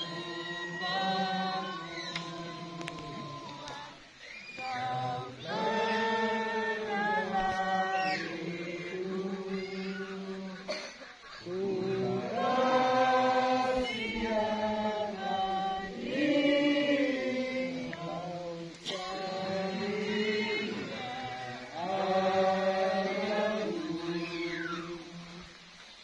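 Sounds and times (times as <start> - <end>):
group singing anthem in unison: 0.0 - 26.0.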